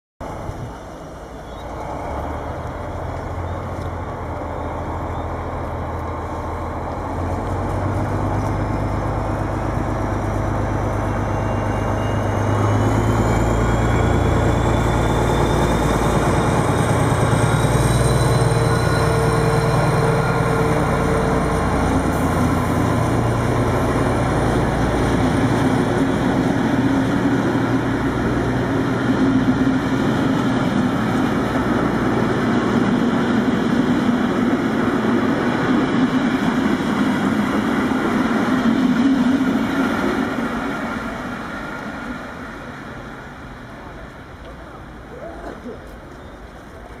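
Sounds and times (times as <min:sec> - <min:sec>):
rising engine whine: 0:00.2 - 0:45.2
diesel locomotive engine rumble: 0:00.2 - 0:47.0
train coaches rolling past: 0:00.2 - 0:47.0.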